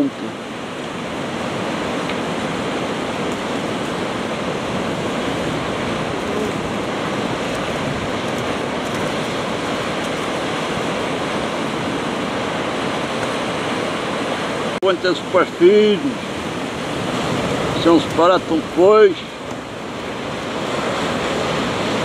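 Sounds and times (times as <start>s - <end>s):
surf churning among rocks: 0.0s - 22.0s.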